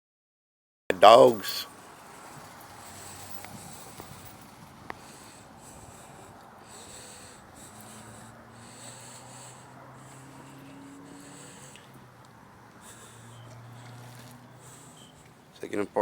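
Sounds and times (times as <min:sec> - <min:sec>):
breathing: 0:01.3 - 0:16.0.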